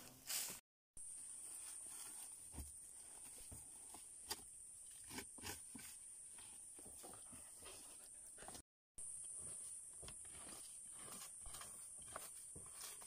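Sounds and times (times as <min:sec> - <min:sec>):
hands brushing dry soil: 0:00.0 - 0:08.6, 0:09.3 - 0:13.0.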